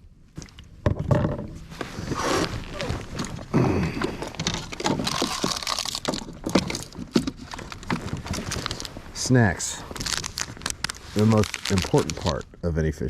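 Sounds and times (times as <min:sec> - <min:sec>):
rustling: 0:01.4 - 0:12.6.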